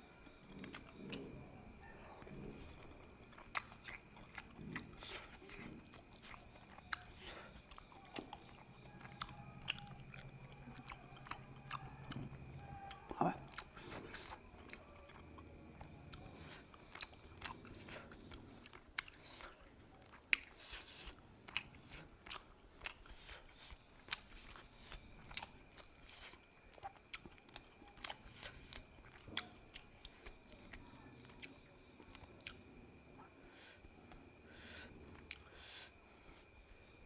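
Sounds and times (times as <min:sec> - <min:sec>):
person chewing and crunching food: 0:00.2 - 0:37.0.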